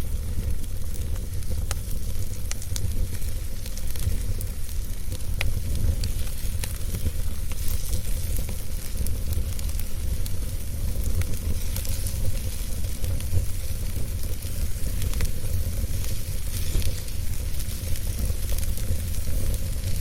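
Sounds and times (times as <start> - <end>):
fire crackling and popping: 0.0 - 20.0
steady hiss: 0.0 - 20.0.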